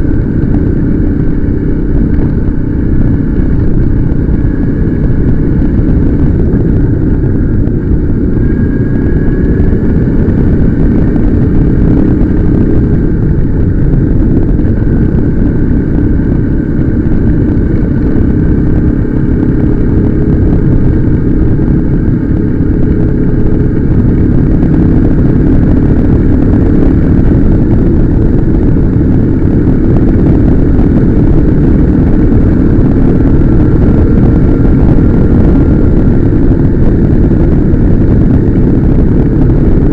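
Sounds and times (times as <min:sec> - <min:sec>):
faint steady whine: 0:00.0 - 0:39.9
motorcycle engine rumble: 0:00.0 - 0:39.9.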